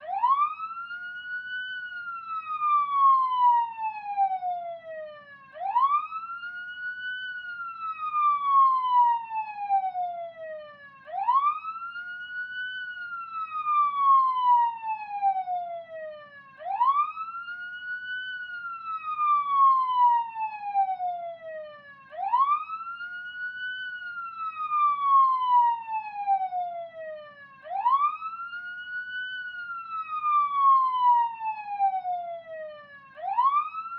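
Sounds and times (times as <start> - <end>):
police siren wailing: 0.0 - 33.9.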